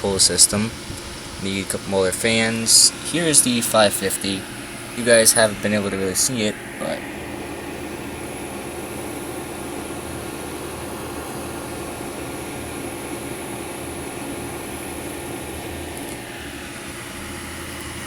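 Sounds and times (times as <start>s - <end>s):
computer cooling fans whirring: 0.0s - 18.0s.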